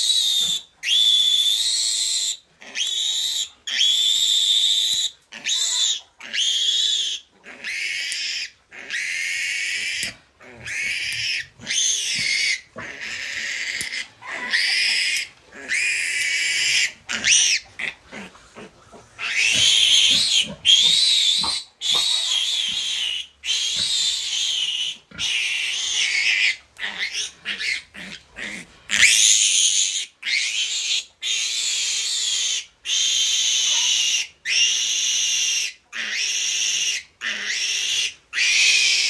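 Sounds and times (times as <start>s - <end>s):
piglet squealing: 0.0s - 18.0s, 19.2s - 39.0s.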